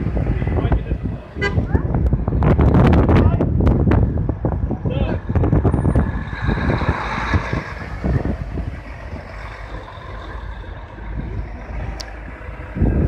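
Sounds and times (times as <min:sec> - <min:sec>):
truck diesel engines rumbling: 0:00.0 - 0:13.0.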